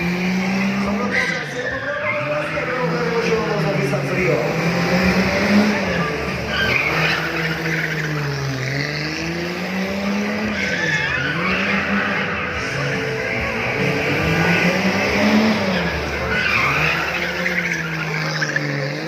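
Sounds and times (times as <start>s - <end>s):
race car engine revving: 0.0s - 19.0s
tyres squealing: 0.4s - 19.0s.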